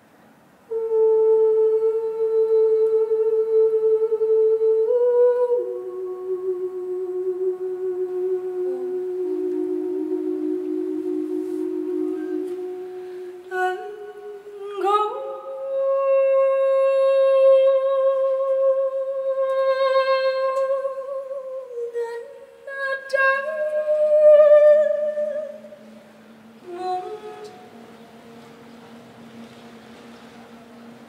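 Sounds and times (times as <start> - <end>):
wordless voices singing long notes: 0.7 - 31.0.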